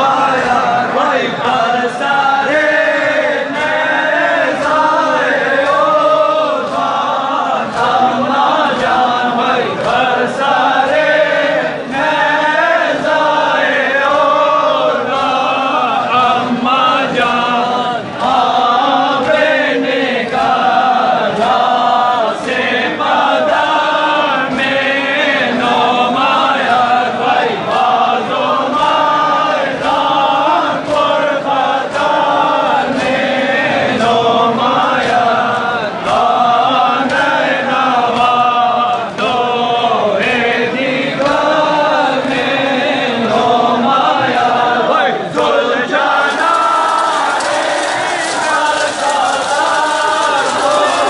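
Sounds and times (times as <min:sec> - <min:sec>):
crowd of men chanting: 0:00.0 - 0:51.0.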